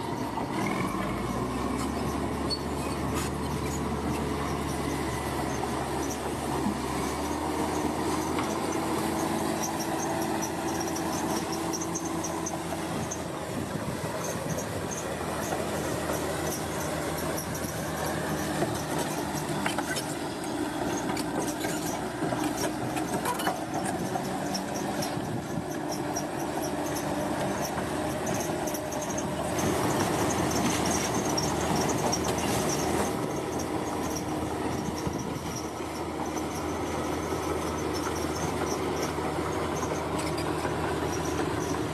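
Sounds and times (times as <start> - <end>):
heavy construction machinery running: 0.0 - 41.9
metallic squealing: 0.2 - 13.4, 14.2 - 41.9.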